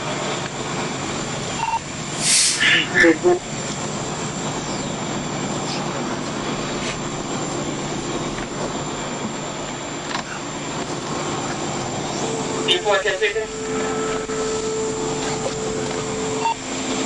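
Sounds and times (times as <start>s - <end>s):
vehicle rushing hum: 0.0s - 17.0s.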